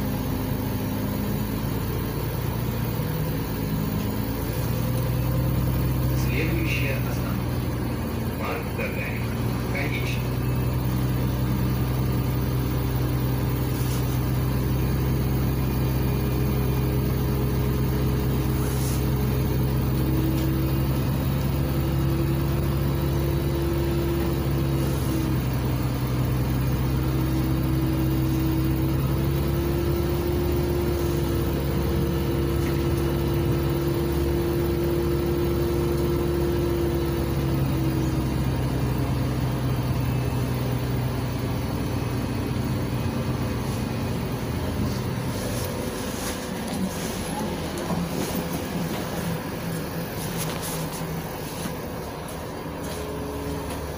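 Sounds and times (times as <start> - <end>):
bus engine humming: 0.0 - 53.9.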